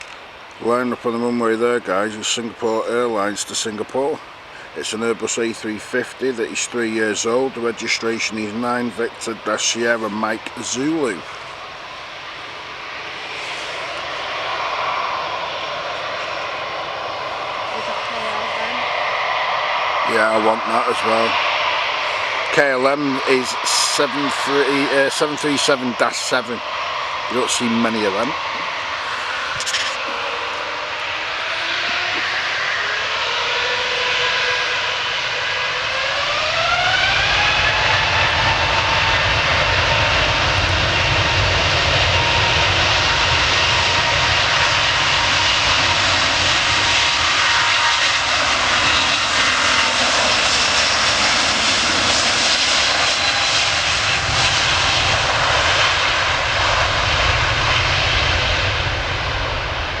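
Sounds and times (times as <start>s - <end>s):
jet engine whine rising: 0.0s - 60.0s
loud jet rumble: 0.0s - 60.0s.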